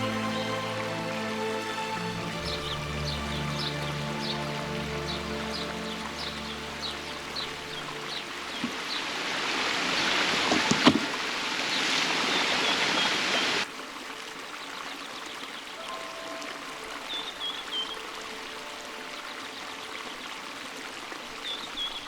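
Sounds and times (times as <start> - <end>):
rushing stream water: 0.0 - 22.0.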